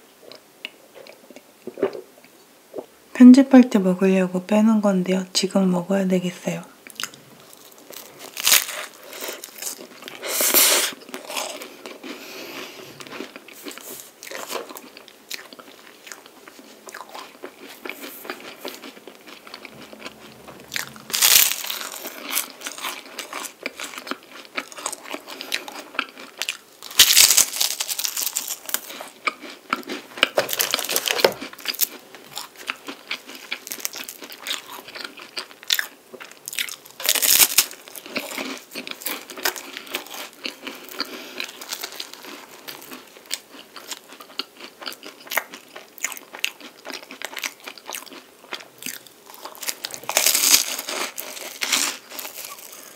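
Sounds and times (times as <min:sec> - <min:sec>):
pastry crunching while chewed: 0:06.9 - 0:52.9.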